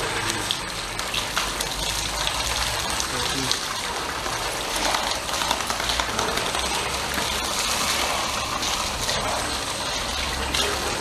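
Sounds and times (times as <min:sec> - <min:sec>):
water pouring and splashing on paving: 0:00.0 - 0:11.0.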